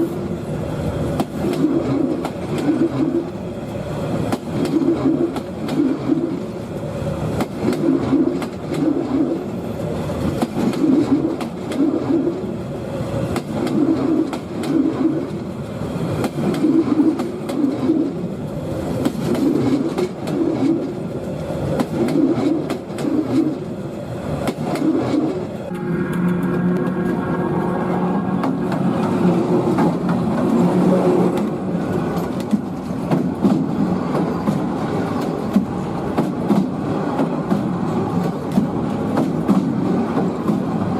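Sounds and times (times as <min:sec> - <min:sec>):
train clickety-clack on rails: 0:00.0 - 0:40.9
train rumble: 0:00.0 - 0:40.9.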